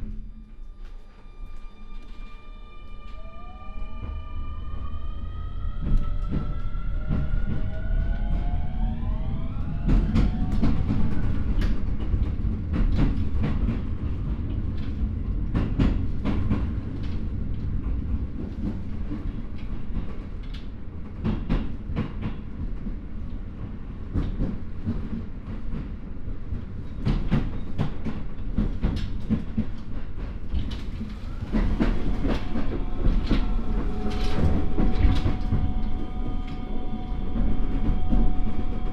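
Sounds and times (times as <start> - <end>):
train wheels rumbling: 0.0 - 38.9.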